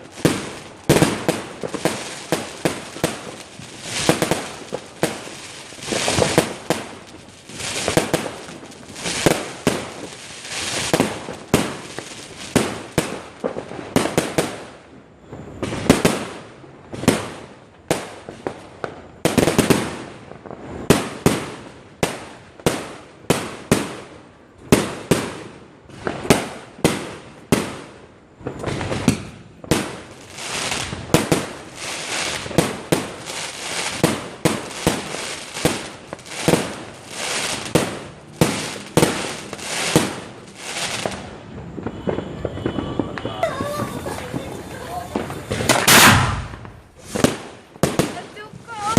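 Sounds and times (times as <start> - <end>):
fireworks bangs: 0.0 - 48.9
fireworks crackling: 0.0 - 48.9.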